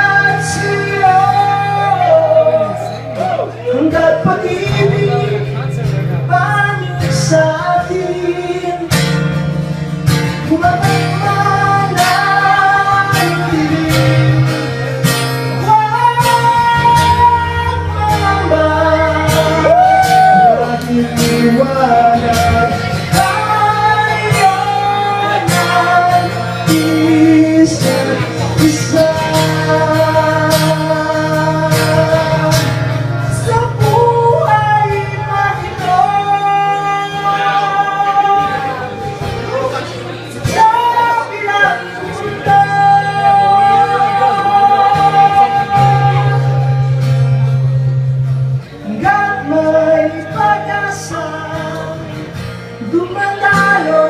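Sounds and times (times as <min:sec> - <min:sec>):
man singing into microphone: 0:00.0 - 0:09.4, 0:10.1 - 0:47.5, 0:48.6 - 0:54.0
acoustic guitar strumming: 0:00.0 - 0:54.0.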